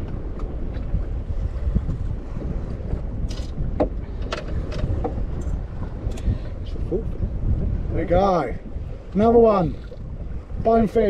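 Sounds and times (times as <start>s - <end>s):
sea washing: 0.0s - 11.0s
wind buffeting microphone: 0.0s - 11.0s.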